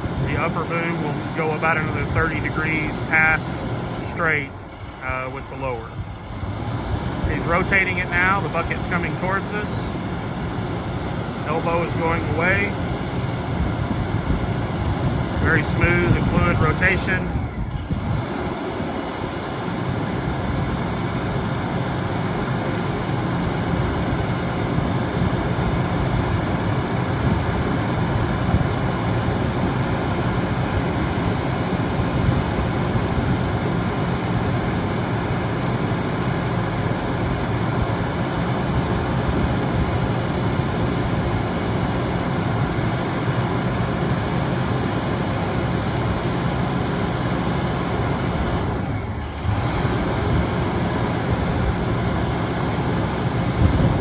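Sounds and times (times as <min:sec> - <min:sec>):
diesel truck engine at high idle: 0:00.0 - 0:54.0.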